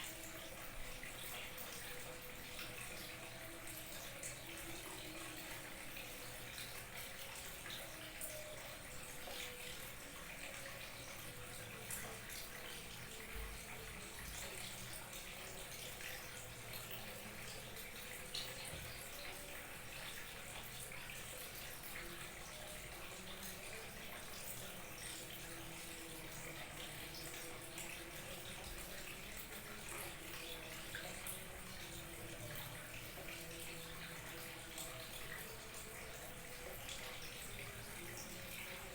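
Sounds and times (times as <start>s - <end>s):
small waterfall trickling: 0.0s - 38.9s.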